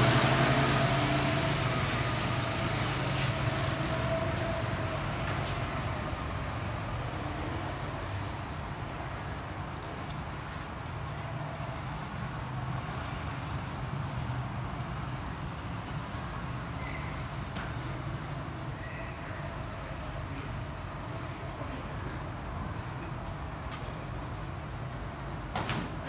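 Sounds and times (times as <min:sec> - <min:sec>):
engines droning: 0:00.0 - 0:25.5.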